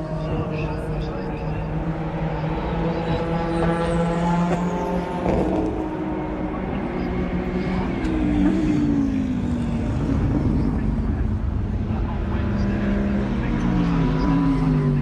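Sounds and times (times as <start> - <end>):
race car engines: 0.0 - 15.0
race car passing by: 0.0 - 15.0.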